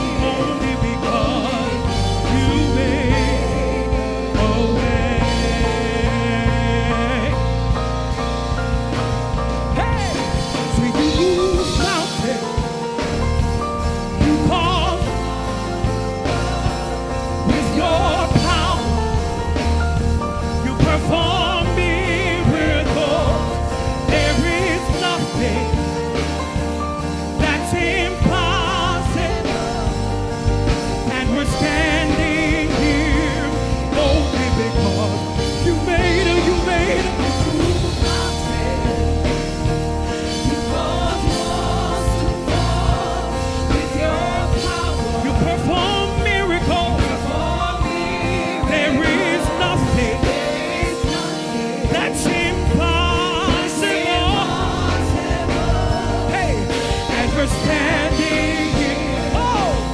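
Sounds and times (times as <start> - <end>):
singing: 0.0 - 8.2, 13.8 - 26.7, 27.3 - 59.9
gospel band playing: 0.0 - 59.9.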